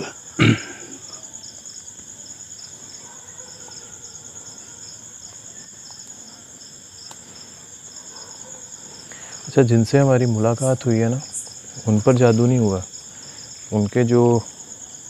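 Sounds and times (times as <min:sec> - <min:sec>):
cricket high trill: 0:00.0 - 0:15.0
cricket rhythmic chirps: 0:00.0 - 0:15.0.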